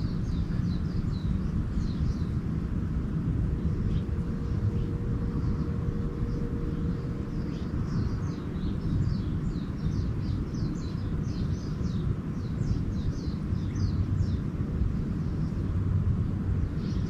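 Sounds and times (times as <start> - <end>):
low rumble: 0.0 - 17.0
small birds twittering: 0.0 - 17.0.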